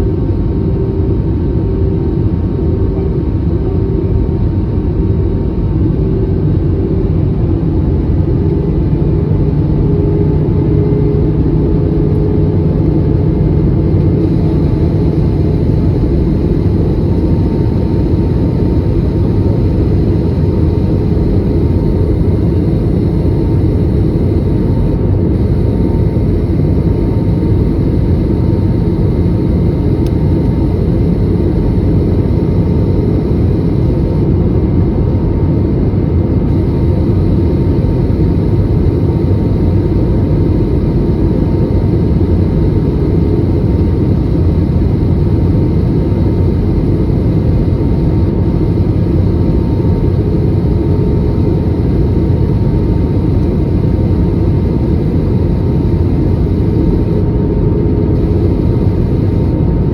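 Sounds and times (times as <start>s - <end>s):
airliner low rumble: 0.0s - 59.9s
faint constant hum: 0.0s - 59.9s.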